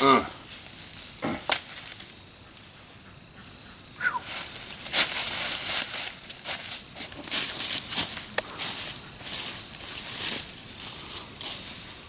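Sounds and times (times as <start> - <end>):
footsteps crunching dry leaves: 0.0 - 2.3, 3.5 - 12.0.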